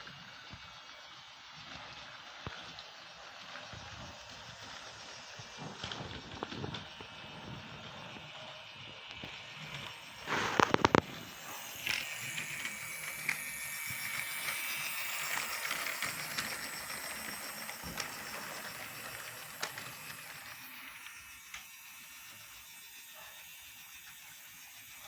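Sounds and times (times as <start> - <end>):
freight train running: 0.0 - 25.0
thin whine: 0.0 - 25.0
train wheel clicks: 0.4 - 25.0.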